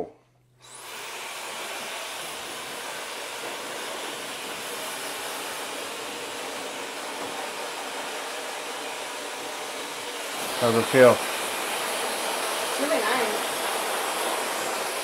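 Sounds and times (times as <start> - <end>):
hair dryer blowing air: 0.6 - 15.0.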